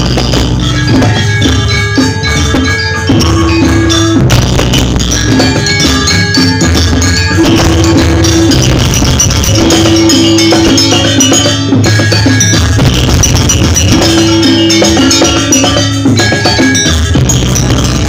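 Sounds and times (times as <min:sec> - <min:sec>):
gamelan music: 0:00.0 - 0:18.0.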